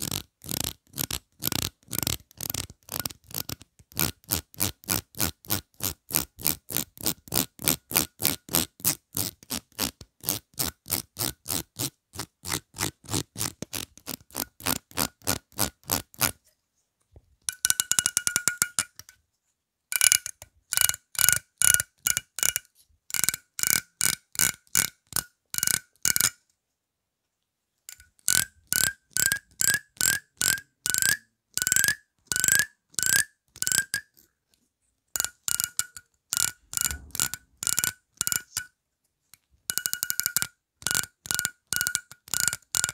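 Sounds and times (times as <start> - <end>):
rattle along comb teeth: 0.0 - 16.4, 17.5 - 19.2, 19.9 - 26.4, 27.9 - 34.3, 35.2 - 38.7, 39.7 - 42.9.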